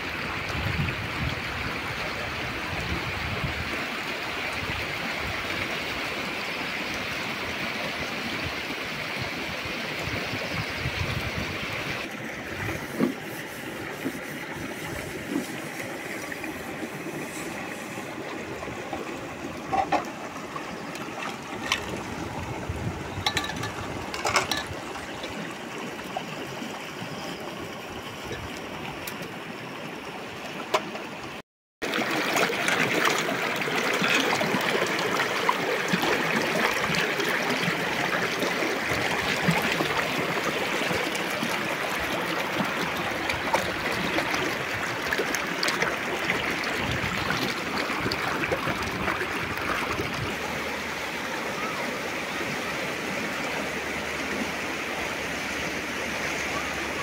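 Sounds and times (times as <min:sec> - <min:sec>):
river water babbling: 0:00.0 - 0:57.0.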